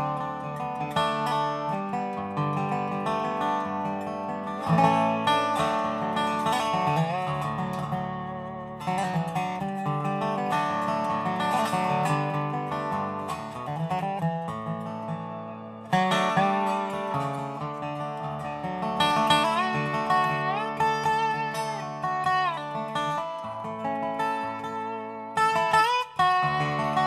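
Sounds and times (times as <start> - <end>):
resonator slide guitar melody: 0.0 - 27.0.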